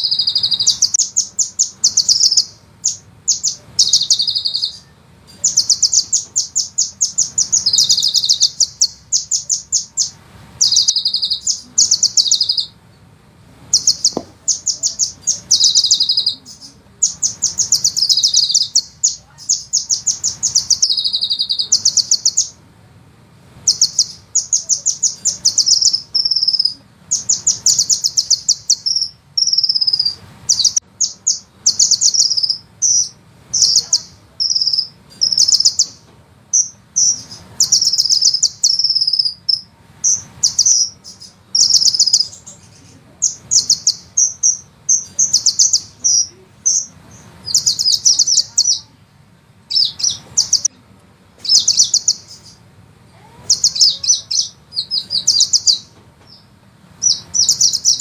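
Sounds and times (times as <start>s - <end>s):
sunbird trilling and whistling: 0.0s - 12.8s, 13.7s - 22.6s, 23.6s - 48.9s, 49.7s - 50.8s, 51.4s - 52.6s, 53.2s - 58.0s.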